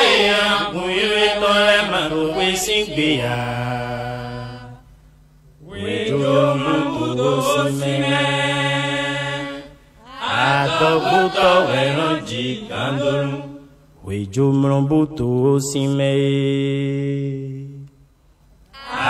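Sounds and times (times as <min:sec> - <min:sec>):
choir chanting a hymn: 0:00.0 - 0:04.8, 0:05.6 - 0:17.0, 0:18.8 - 0:19.0.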